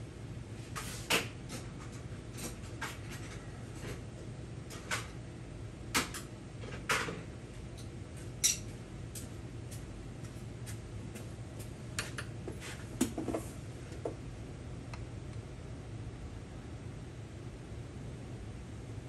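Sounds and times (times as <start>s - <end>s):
low steady hum: 1.5s - 19.0s.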